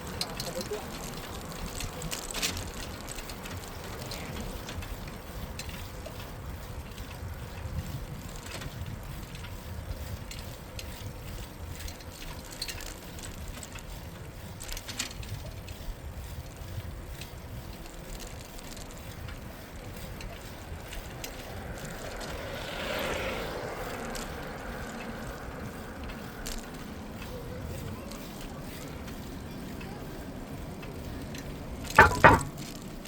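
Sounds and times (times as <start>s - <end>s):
bicycle clicks and rattles: 0.0s - 33.0s.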